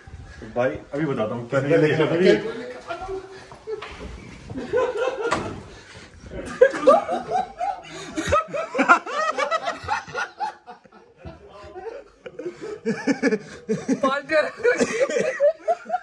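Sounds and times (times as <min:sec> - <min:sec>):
men laughing hard: 0:02.3 - 0:16.0.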